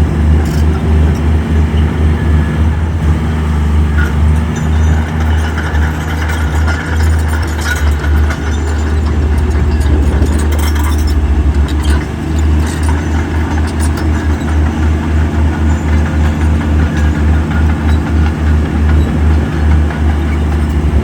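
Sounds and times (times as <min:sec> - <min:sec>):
heavy diesel machinery rumbling: 0:00.0 - 0:21.0.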